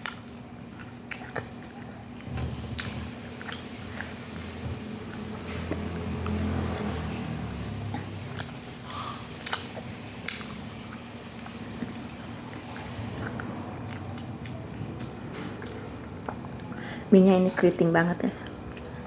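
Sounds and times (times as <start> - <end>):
chewing noodles: 0.0 - 19.0.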